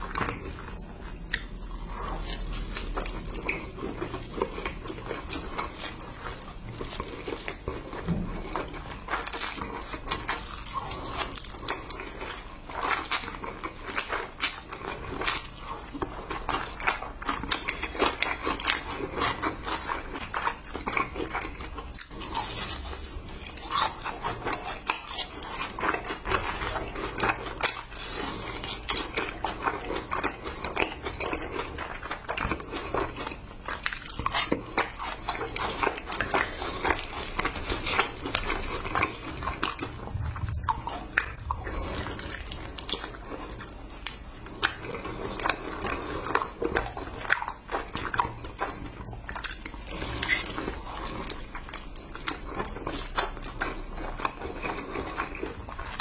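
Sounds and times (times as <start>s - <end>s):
noodles slurped and chewed: 0.0s - 56.0s.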